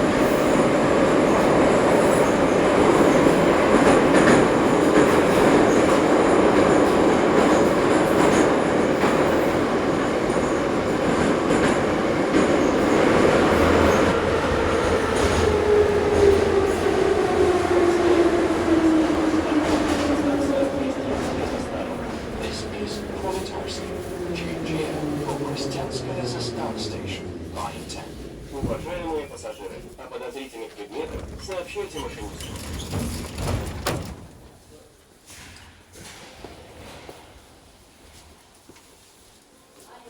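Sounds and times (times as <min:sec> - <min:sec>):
train wheels rumbling on rail: 0:00.0 - 0:38.6
rail clicks: 0:01.4 - 0:36.6.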